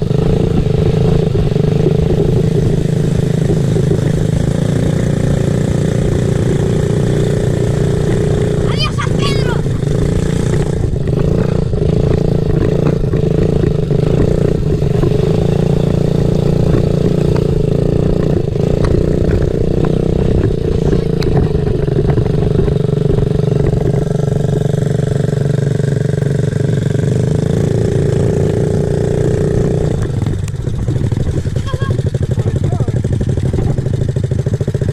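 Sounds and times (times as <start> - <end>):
small motorcycle engine running: 0.0 - 34.9.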